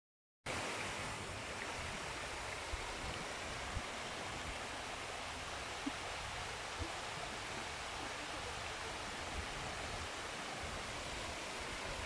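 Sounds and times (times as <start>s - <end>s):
stream running over rocks: 0.5s - 12.0s.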